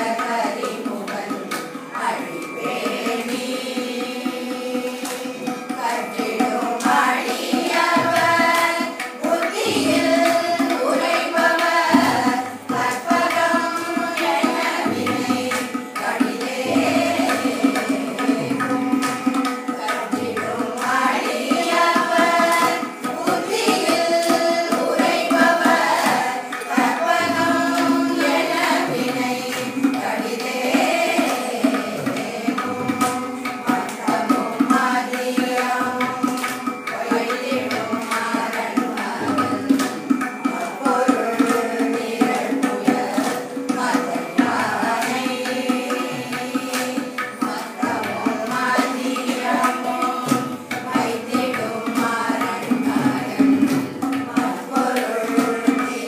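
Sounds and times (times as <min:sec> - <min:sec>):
tabla strokes: 0:00.0 - 0:56.0
women singing together: 0:00.0 - 0:56.0.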